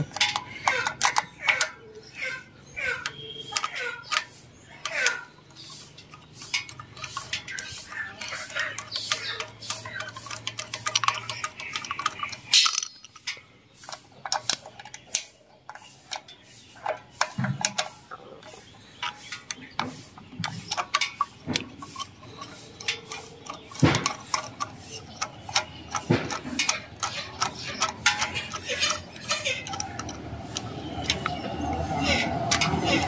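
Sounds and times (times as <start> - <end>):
screwdriver clinking on metal: 0.0 - 1.9, 2.8 - 33.0.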